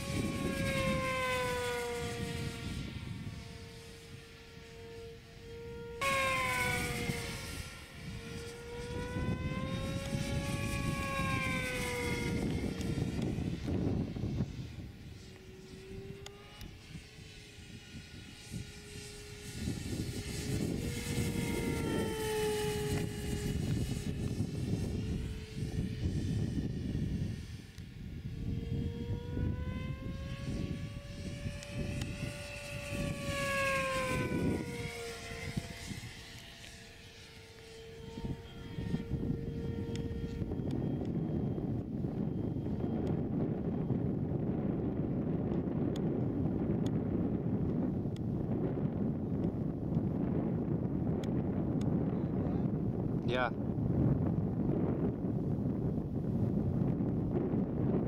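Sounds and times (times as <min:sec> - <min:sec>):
low wind rumble: 0:00.0 - 0:58.0
model plane motor whining: 0:00.0 - 0:58.0.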